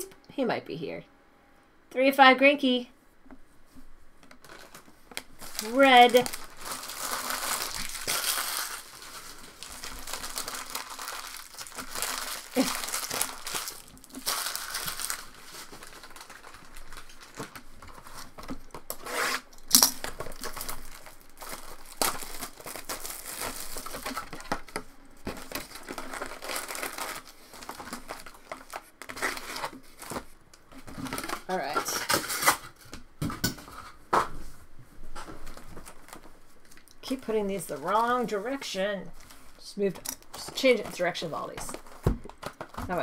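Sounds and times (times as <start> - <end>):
cardboard and packs handled: 3.6 - 43.0
plastic shrink wrap crinkling: 4.2 - 33.1, 35.0 - 43.0.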